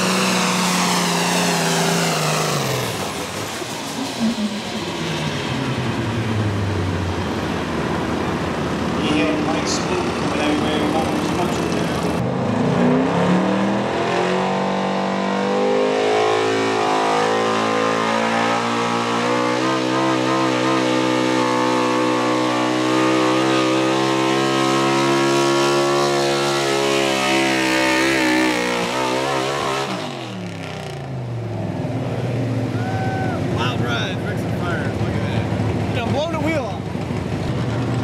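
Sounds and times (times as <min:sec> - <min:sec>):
truck engine revving under load: 0:00.0 - 0:38.0.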